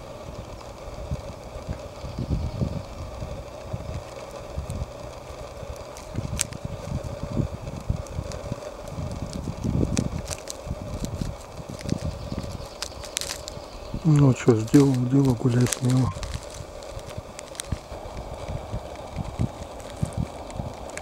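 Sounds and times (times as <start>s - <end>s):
faint steady hum: 0.0s - 21.0s
wind buffeting microphone: 0.0s - 21.0s.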